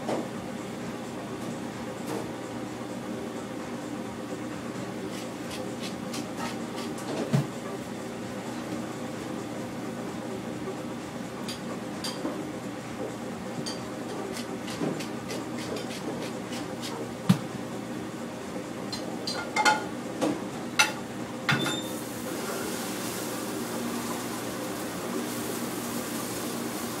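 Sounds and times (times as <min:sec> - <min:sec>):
ventilation hum: 0:00.0 - 0:27.0.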